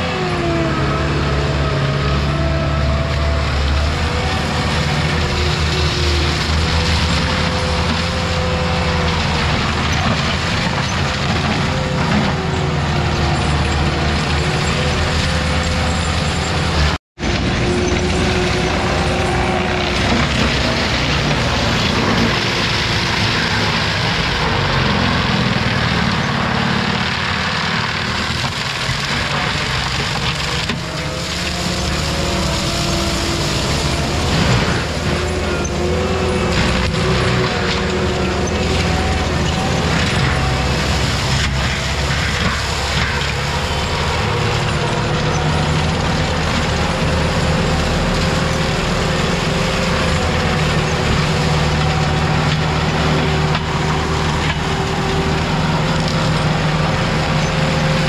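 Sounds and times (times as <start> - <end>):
heavy equipment engine running: 0.0 - 58.0.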